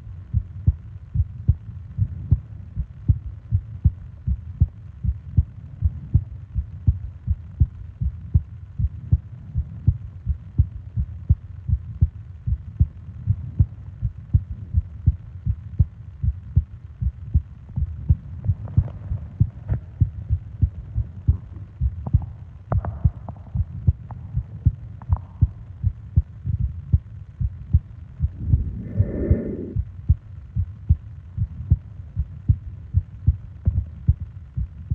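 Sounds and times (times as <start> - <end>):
heartbeat thumps: 0.3 - 34.9.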